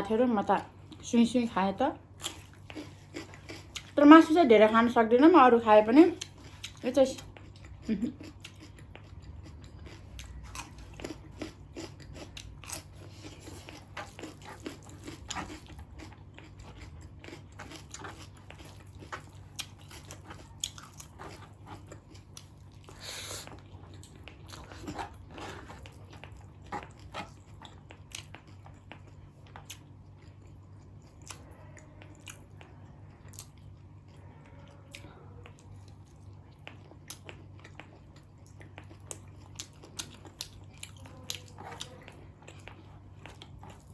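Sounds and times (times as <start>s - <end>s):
person chewing and biting: 2.1s - 4.0s, 6.2s - 32.7s, 34.9s - 43.9s.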